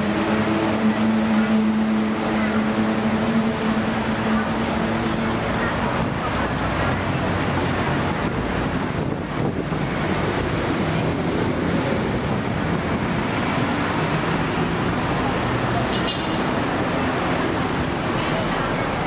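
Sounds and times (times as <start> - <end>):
busy street traffic roar: 0.0 - 19.0.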